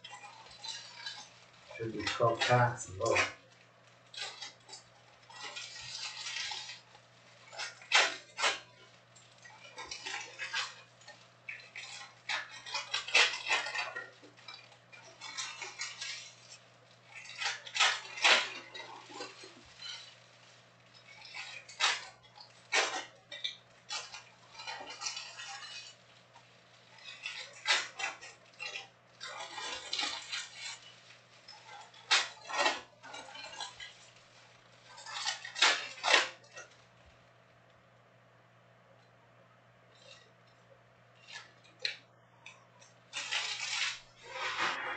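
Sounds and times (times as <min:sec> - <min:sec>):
foil wrappers crinkling and tearing: 0:00.0 - 0:37.1, 0:41.2 - 0:44.9.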